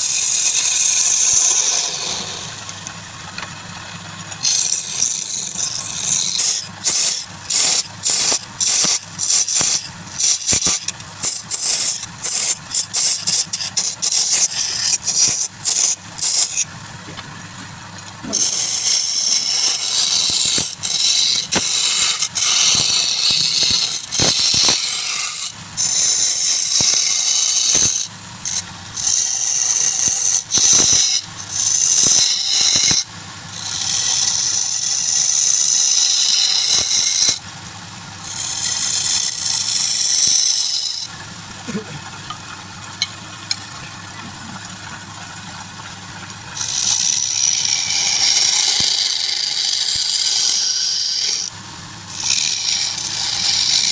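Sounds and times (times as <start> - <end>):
lathe humming: 0.0 - 53.9
lathe tool scraping wood: 0.0 - 53.9.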